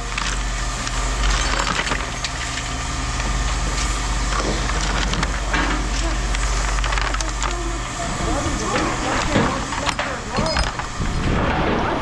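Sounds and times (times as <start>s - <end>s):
engine idling: 0.0s - 11.4s
scrap iron clattering: 1.0s - 12.0s.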